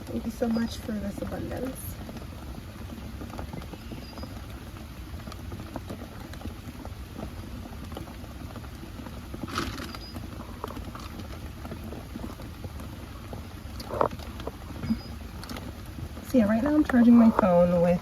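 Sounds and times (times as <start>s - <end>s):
rain on a roof: 0.0s - 18.0s.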